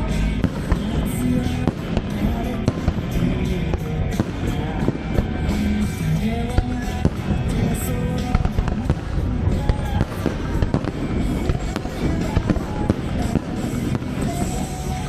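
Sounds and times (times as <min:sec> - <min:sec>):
fireworks banging: 0:00.0 - 0:15.0
music over loudspeakers: 0:00.0 - 0:15.0.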